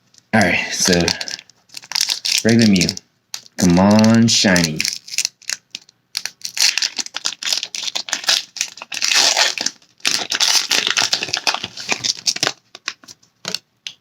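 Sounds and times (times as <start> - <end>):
foil wrapper crinkling and tearing: 0.7 - 13.1.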